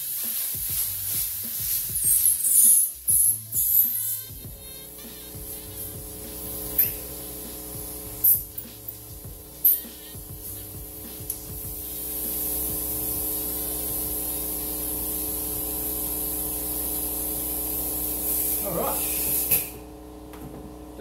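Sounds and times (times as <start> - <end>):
compressed air hissing: 0.0 - 20.3.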